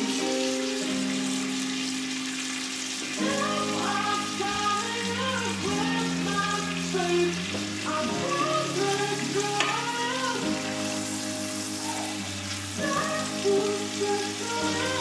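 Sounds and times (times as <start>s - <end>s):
background music with held chords: 0.0s - 15.0s
steak sizzling in a pan: 0.0s - 15.0s.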